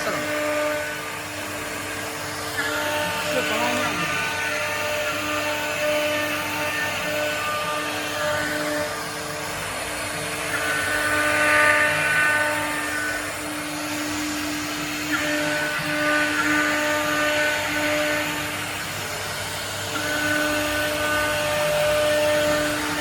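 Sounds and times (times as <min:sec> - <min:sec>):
router spindle cutting wood: 0:00.0 - 0:23.0.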